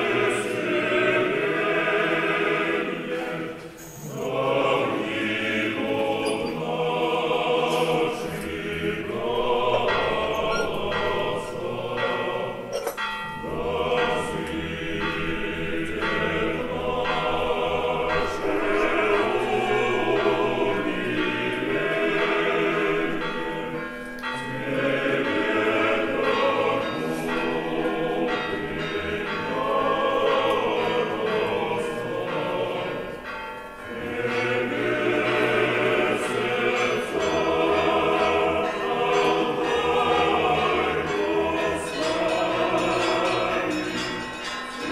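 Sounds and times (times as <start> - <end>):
choir singing sacred music: 0.0 - 44.9.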